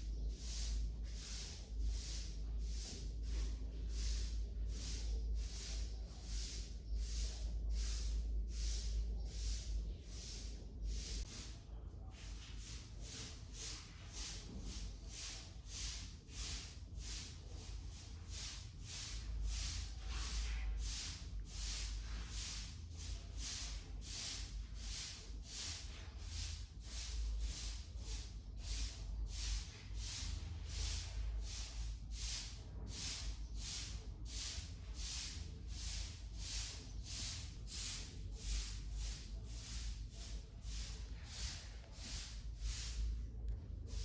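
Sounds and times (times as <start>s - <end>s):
broom sweeping: 0.0s - 44.0s.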